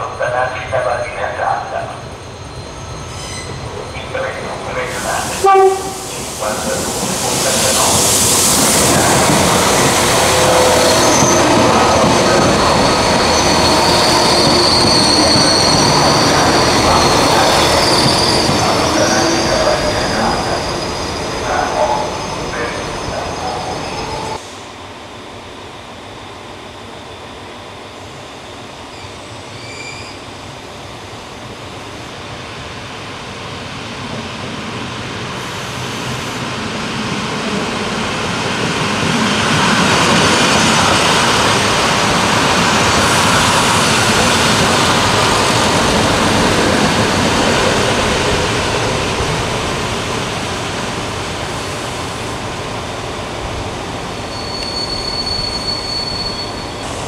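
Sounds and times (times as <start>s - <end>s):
diesel railcar passing: 0.0s - 28.6s, 30.7s - 57.0s.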